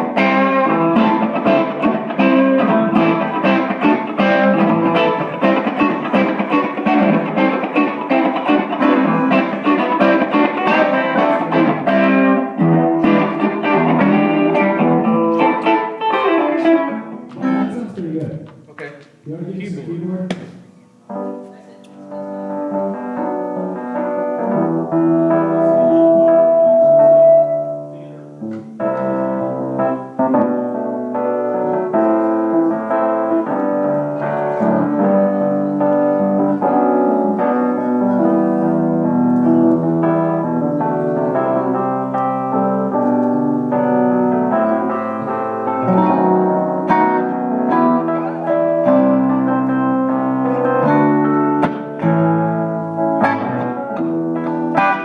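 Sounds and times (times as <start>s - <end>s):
piano playing chords and melody: 0.0s - 18.0s, 20.9s - 55.0s.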